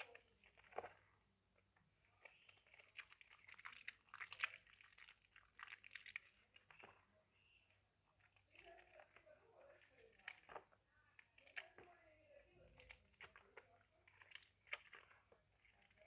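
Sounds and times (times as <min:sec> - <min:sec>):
wet soap squelching: 0:00.0 - 0:16.0.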